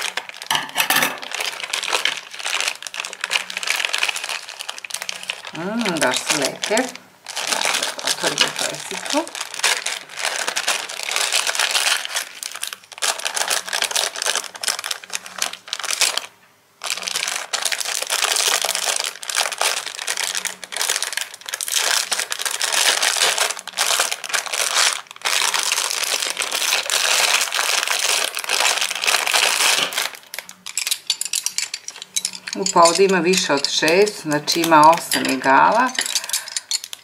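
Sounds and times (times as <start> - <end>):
plastic packaging crinkling: 0.0 - 37.0.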